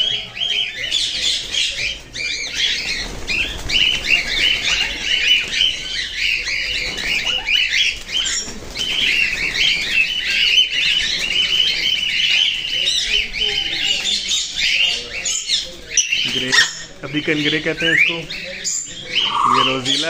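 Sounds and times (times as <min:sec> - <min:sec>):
parrots squawking and chattering: 0:00.0 - 0:20.0.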